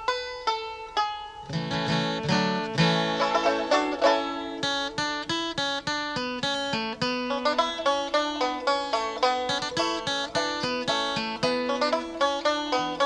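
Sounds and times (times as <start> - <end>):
picked acoustic string music: 0.0 - 13.0.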